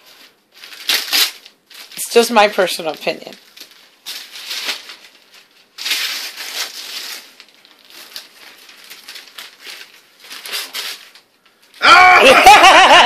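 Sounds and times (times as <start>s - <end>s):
wrapping paper crinkling: 0.0s - 11.8s.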